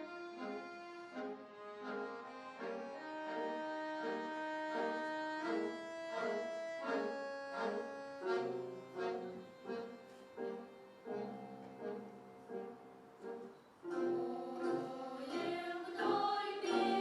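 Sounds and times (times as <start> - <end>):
accordion playing: 0.0 - 17.0.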